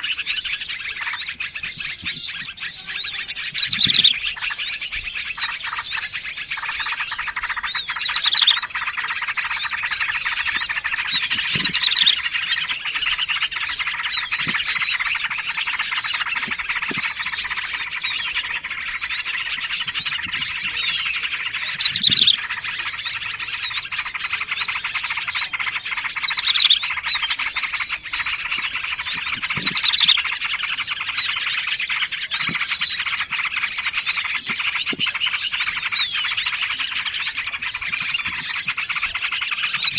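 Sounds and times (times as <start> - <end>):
chorus of songbirds chirping: 0.0 - 39.9
faint short low bird calls: 0.0 - 39.9.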